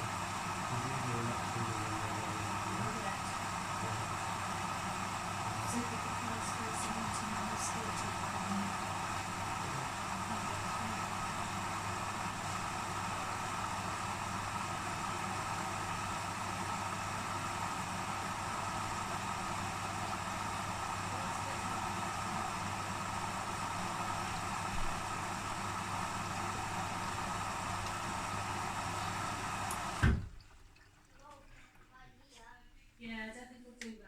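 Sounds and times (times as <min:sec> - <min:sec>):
washing machine humming: 0:00.0 - 0:33.5.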